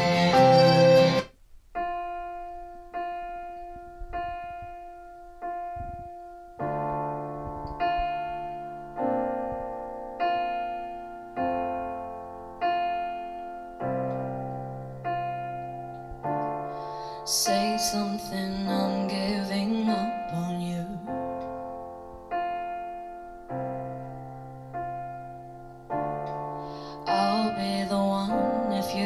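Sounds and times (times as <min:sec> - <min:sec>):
solo piano chords: 0:00.0 - 0:29.0.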